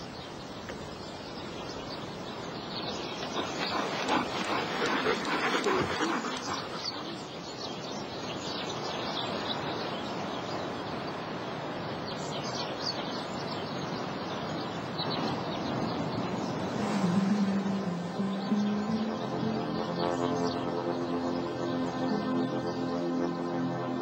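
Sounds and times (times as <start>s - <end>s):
birds chirping: 0.0s - 24.0s
steady background hiss: 0.0s - 24.0s.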